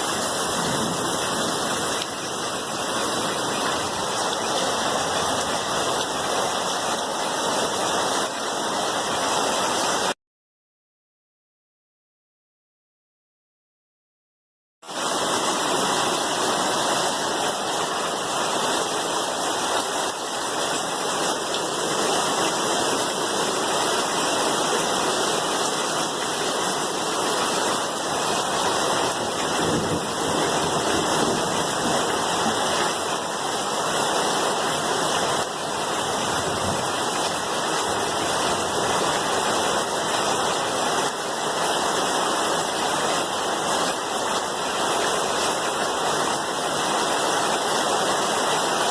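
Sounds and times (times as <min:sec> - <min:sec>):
steady rain: 0:00.0 - 0:10.2, 0:14.8 - 0:48.9.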